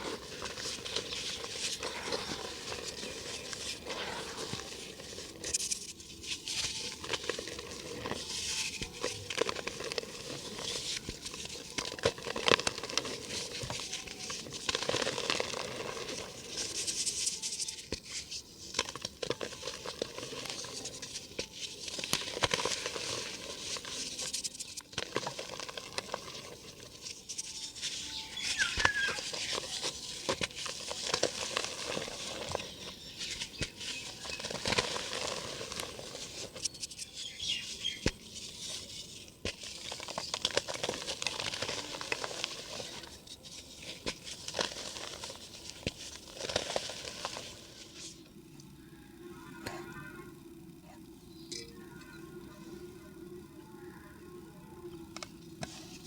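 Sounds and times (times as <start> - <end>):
dry cement dirt crumbling: 0.0 - 49.0, 54.8 - 56.0.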